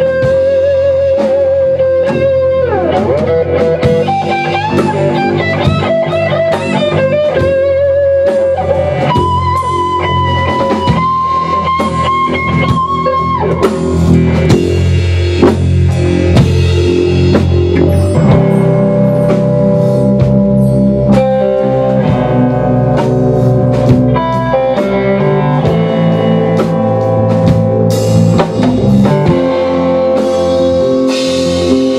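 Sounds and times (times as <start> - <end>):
drum kit: 0.0 - 31.9
lead electric guitar with vibrato: 0.0 - 31.9
rock band playing chords: 0.0 - 31.9.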